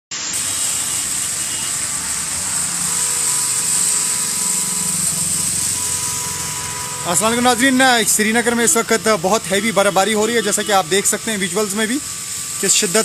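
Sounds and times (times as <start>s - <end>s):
cars passing on snowy road: 0.1s - 13.0s.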